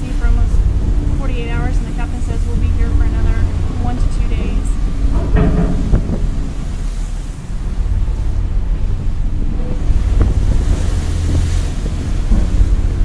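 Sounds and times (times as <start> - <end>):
heavy breaking seas: 0.0 - 13.0
wind buffeting microphone: 0.0 - 13.0.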